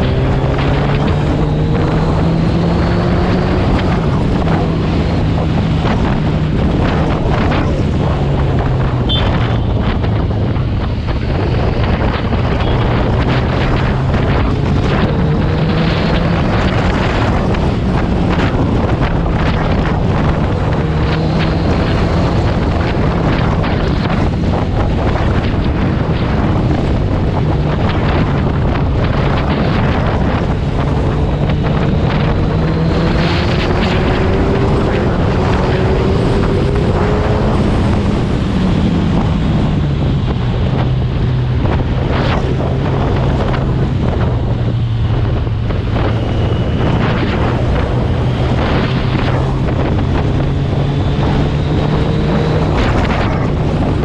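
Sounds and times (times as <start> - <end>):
motorcycle engine droning: 0.0 - 54.0
wind buffeting microphone: 0.0 - 54.0.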